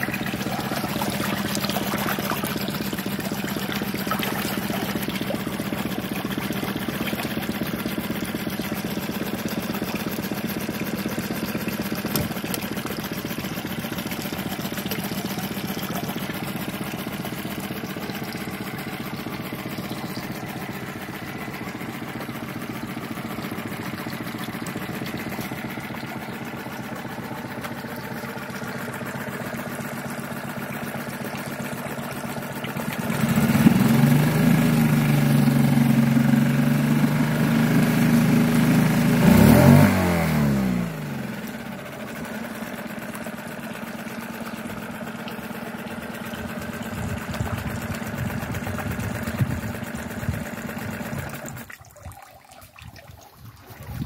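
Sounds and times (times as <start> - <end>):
outboard motor running: 0.0 - 54.0
propeller churning water: 0.0 - 54.0.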